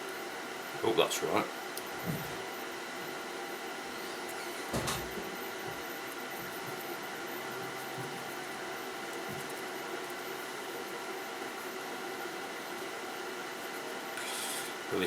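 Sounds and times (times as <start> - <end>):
equipment hum and hiss: 0.0 - 15.0.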